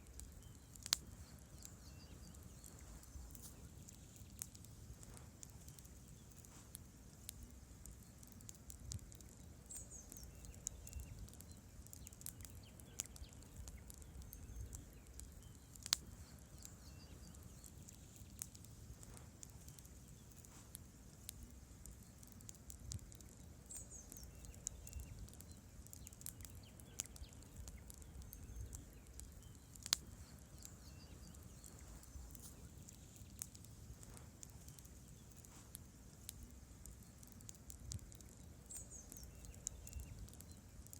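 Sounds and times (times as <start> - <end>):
burning logs snapping: 0.0 - 40.9
campfire crackling: 0.0 - 40.9.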